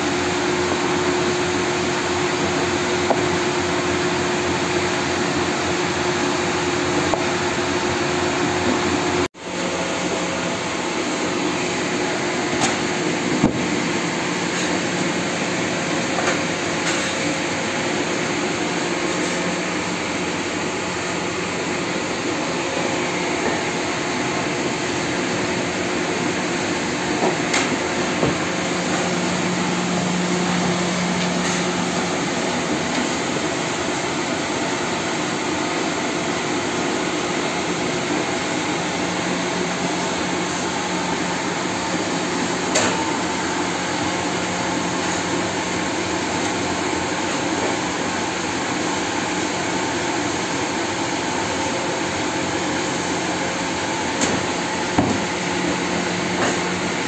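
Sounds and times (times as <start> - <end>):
bakery machinery whirring: 0.0 - 57.0.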